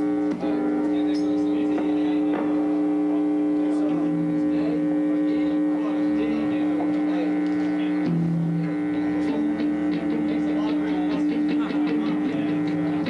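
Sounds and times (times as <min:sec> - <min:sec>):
guitar amplifier hum: 0:00.0 - 0:13.0.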